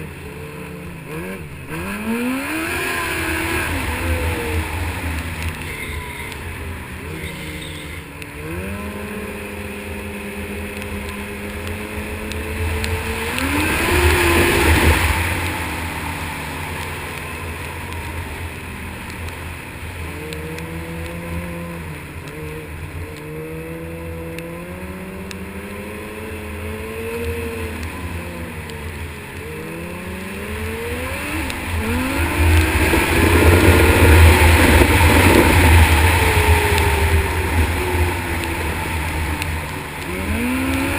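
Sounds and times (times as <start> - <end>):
snowmobile engine revving: 0.0 - 18.8, 19.8 - 40.9.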